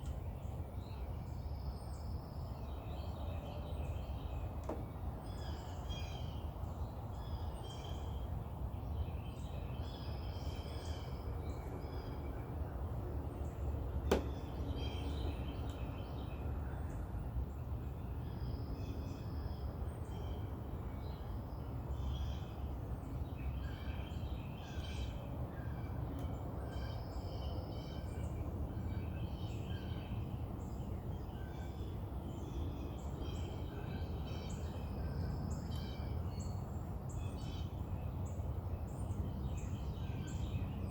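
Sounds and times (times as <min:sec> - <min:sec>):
low outdoor rumble: 0:00.0 - 0:40.9
songbirds chirping and trilling: 0:00.0 - 0:40.9.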